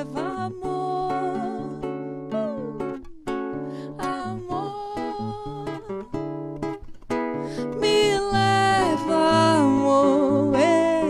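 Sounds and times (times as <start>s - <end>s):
woman singing wordlessly: 0.0s - 6.2s, 7.5s - 11.0s
fingerpicked classical guitar: 0.0s - 11.0s.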